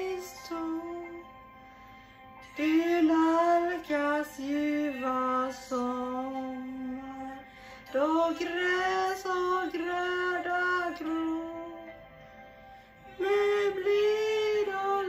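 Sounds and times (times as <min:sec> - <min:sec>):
woman singing: 0:00.0 - 0:01.3, 0:02.4 - 0:11.9, 0:13.1 - 0:15.0.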